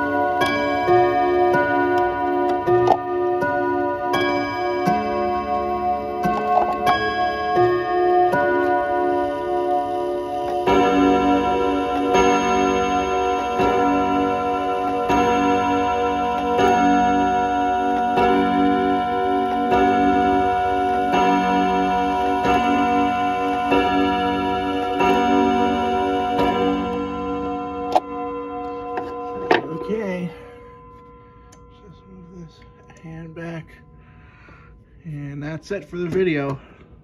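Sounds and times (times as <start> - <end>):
clock striking the hour: 0.0 - 33.8
clock chime rods ringing: 0.0 - 36.8.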